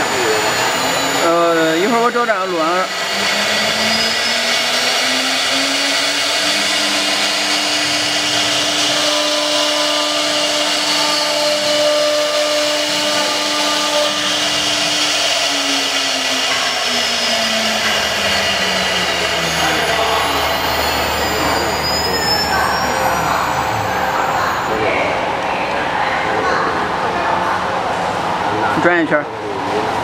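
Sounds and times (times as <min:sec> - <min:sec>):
router spindle whining: 0:00.0 - 0:24.3.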